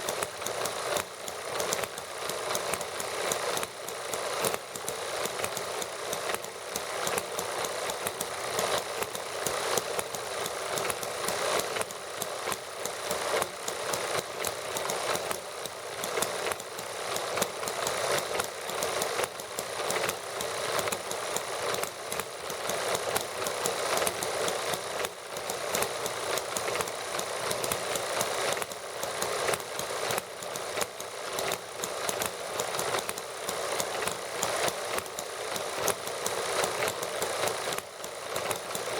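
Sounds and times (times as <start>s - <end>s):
small model engines running: 0.0s - 38.9s.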